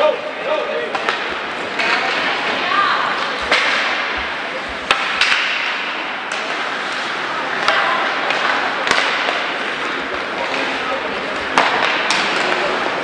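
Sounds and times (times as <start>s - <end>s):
hockey sticks and puck clacking: 0.0s - 13.0s.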